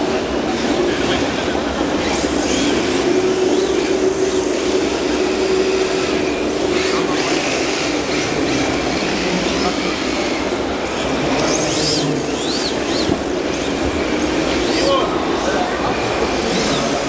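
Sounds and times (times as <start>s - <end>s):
rc car motors whining: 0.1s - 17.0s.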